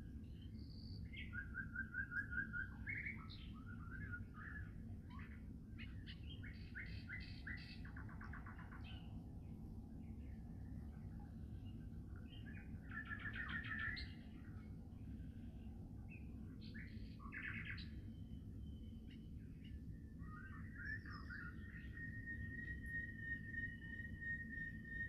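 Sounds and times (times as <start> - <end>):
songbirds chirping: 0.0 - 25.0
thin steady whistling tone: 0.0 - 25.0.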